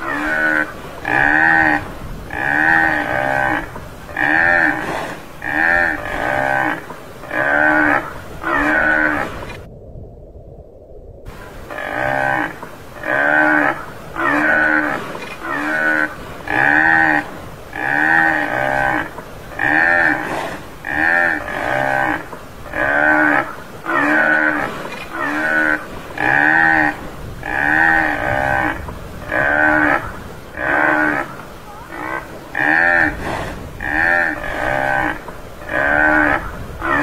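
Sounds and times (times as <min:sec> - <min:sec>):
buffalo bawling: 0:00.0 - 0:09.5, 0:11.7 - 0:37.0.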